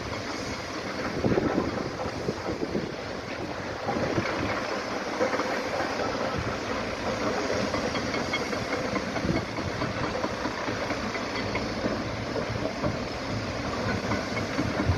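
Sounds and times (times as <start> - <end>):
excavator engine rumble: 0.0 - 14.9.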